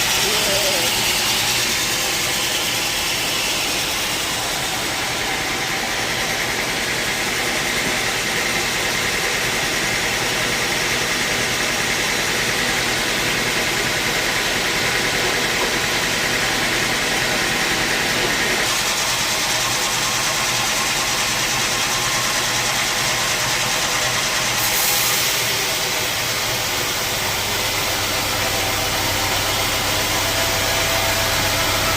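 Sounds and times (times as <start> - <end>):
sawmill saw running: 0.0 - 31.9.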